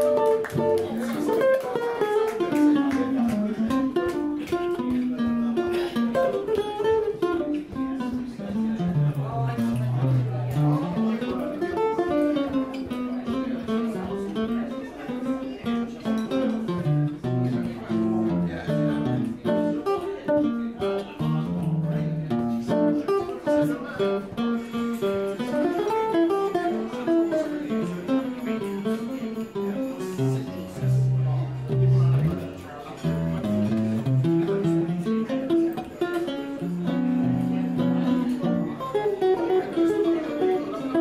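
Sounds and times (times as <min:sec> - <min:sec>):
jazz guitar solo: 0:00.0 - 0:41.0.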